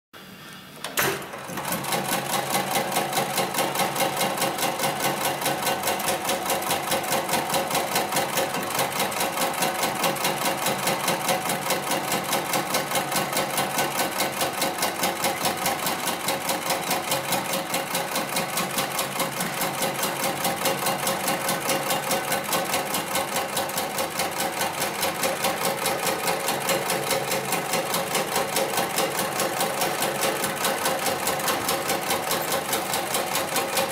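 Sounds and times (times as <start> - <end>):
sewing machine stitching: 0.9 - 33.9.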